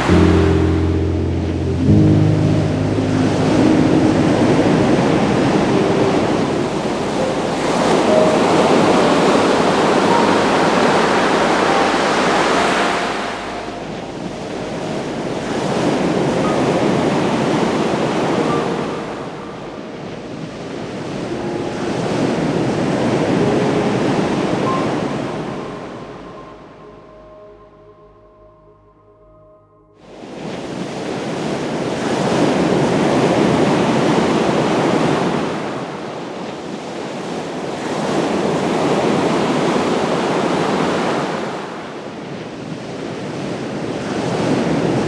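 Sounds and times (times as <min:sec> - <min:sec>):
ocean waves breaking: 0:00.0 - 0:26.8, 0:30.2 - 0:45.0.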